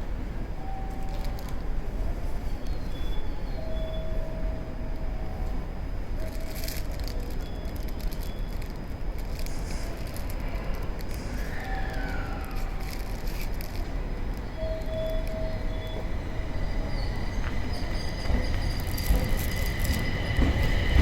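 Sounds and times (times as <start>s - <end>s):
electric train rumbling: 0.0s - 21.0s
thin whining tones: 0.6s - 21.0s.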